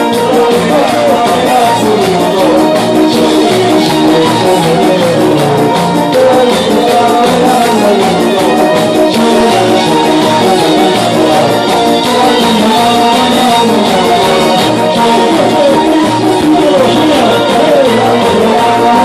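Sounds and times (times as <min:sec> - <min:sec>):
electronic keyboard with steady beat: 0:00.0 - 0:19.0
man singing into a microphone: 0:00.0 - 0:19.0.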